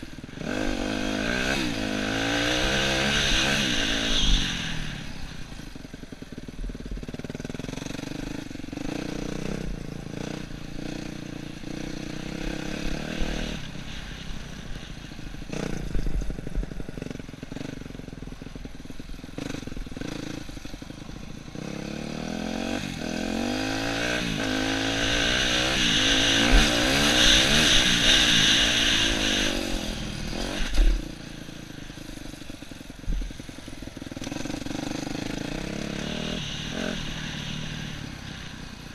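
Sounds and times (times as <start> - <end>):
dirt bike engine revving: 0.0 - 5.8, 6.8 - 18.1, 19.0 - 38.9.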